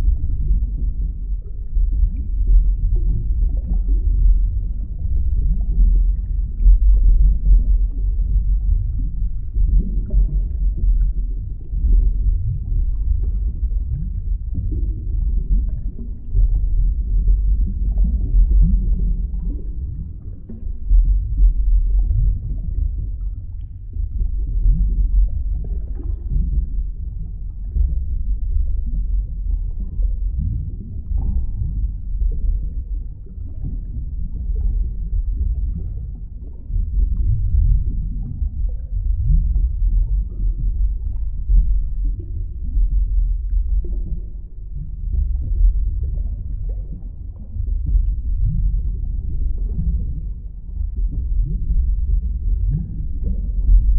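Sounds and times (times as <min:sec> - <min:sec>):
low underwater rumble: 0:00.0 - 0:53.9
water bubbling: 0:00.0 - 0:53.9.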